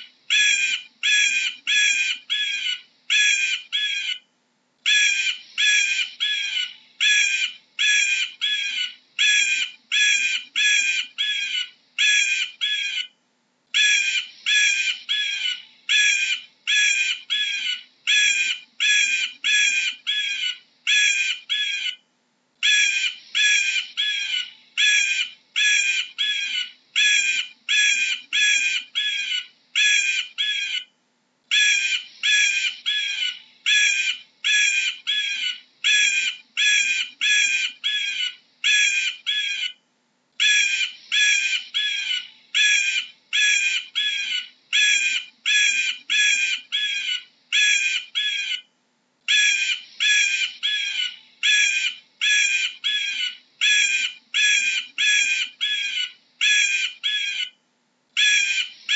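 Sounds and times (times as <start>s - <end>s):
eagle high piping calls: 0.0s - 39.8s, 40.4s - 48.7s, 49.3s - 57.6s, 58.2s - 58.9s.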